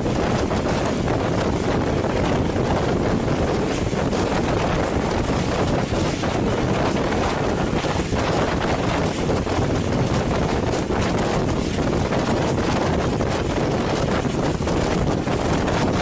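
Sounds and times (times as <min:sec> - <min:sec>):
train rumbling along track: 0:00.0 - 0:16.0
wind buffeting microphone: 0:00.0 - 0:16.0.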